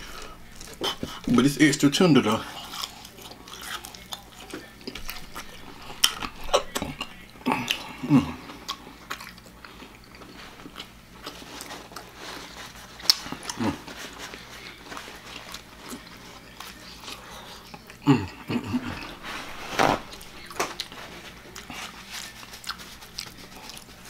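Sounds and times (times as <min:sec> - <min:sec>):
crispy chicken crunching: 0:00.0 - 0:24.0.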